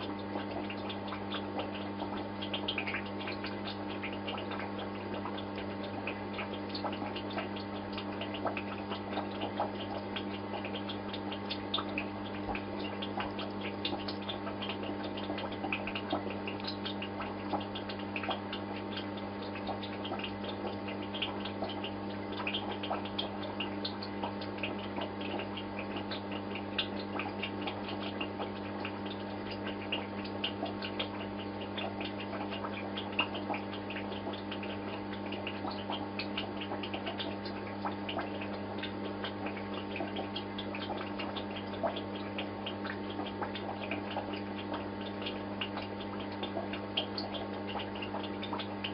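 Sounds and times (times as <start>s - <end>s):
aquarium pump humming: 0.0s - 48.9s
small ticks and clicks: 0.0s - 48.9s
water dripping: 0.0s - 48.9s.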